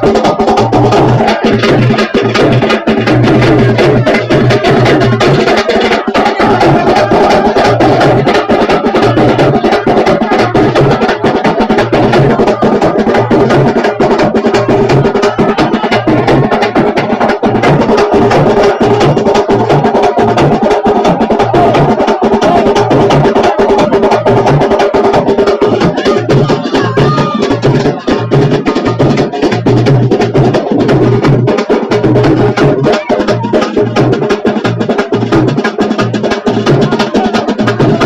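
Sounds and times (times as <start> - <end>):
low bass drum beat: 0.0 - 35.6
group drumming: 0.0 - 38.0.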